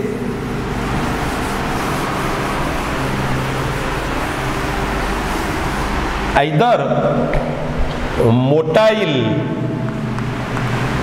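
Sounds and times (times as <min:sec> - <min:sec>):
low hum: 0:00.0 - 0:08.5, 0:09.2 - 0:11.0
steady rushing noise: 0:00.0 - 0:11.0.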